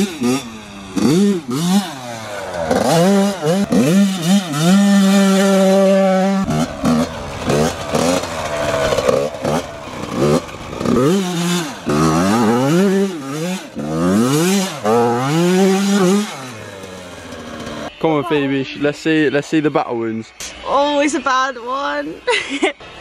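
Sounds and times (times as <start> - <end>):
dirt bike engine revving: 0.0 - 19.4.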